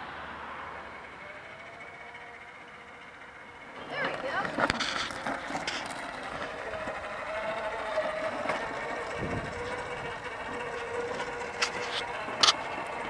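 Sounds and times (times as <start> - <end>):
electric motor whining: 0.6 - 13.0.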